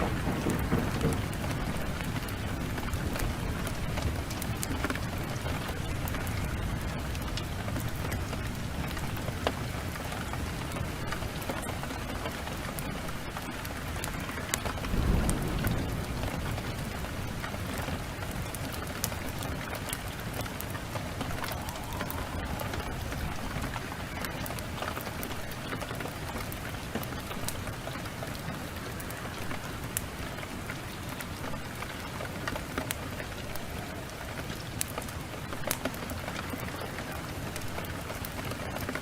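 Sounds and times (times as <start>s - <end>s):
fire popping and snapping: 0.0s - 39.0s
heavy rain: 0.0s - 39.0s
wood fire crackling: 0.0s - 39.0s.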